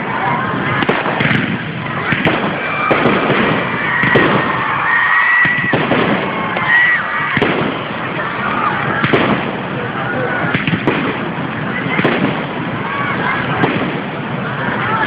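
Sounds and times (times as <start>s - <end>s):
fireworks bursting with bangs: 0.0s - 15.0s
fireworks whistling: 0.0s - 15.0s.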